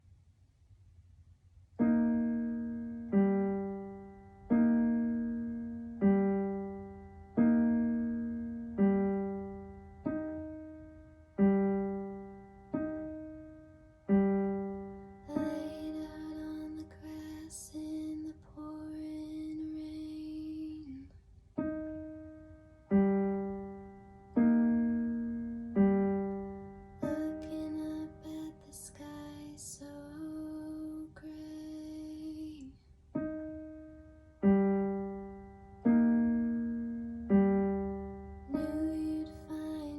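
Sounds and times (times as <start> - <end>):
slow piano piece: 1.8 - 39.9.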